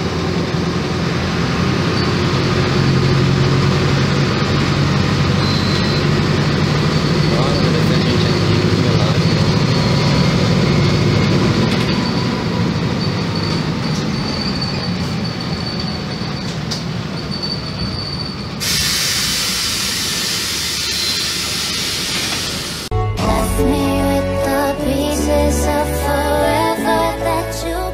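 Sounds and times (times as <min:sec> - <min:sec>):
diesel bus engine running: 0:00.0 - 0:27.9.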